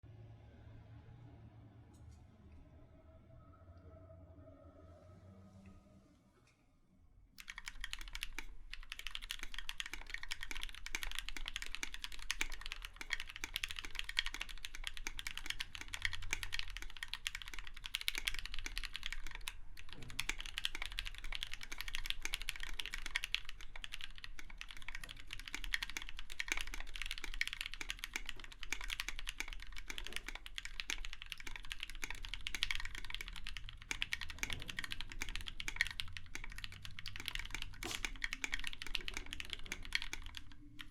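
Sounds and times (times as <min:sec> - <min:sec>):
mechanical keyboard typing: 0:07.4 - 0:40.9.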